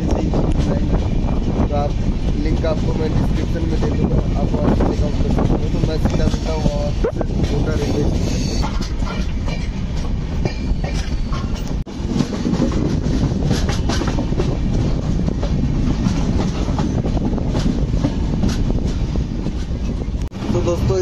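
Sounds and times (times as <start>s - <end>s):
train rumbling on track: 0.0s - 21.0s
wheels clattering over rail joints: 0.0s - 21.0s.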